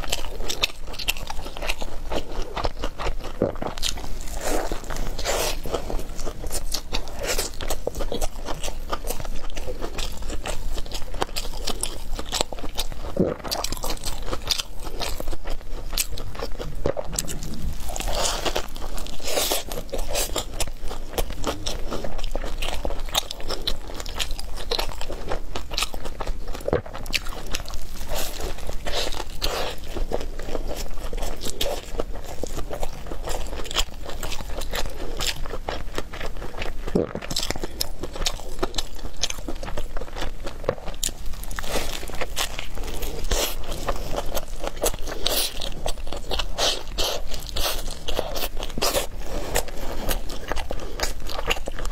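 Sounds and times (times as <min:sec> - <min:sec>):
crunchy biting and chewing: 0:00.0 - 0:51.9.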